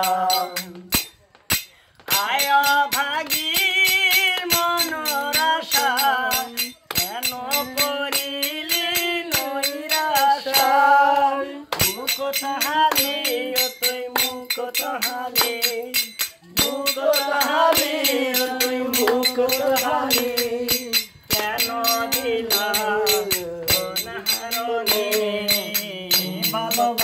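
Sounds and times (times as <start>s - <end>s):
men singing folk song: 0.0s - 1.0s, 2.0s - 27.0s
hand claps: 0.0s - 27.0s.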